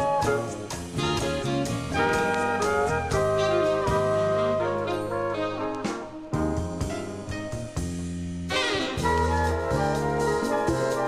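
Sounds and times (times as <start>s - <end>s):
bass and drums: 0.0s - 11.0s
big-band jazz: 0.0s - 11.0s
brass section chords: 1.0s - 7.7s, 8.5s - 11.0s.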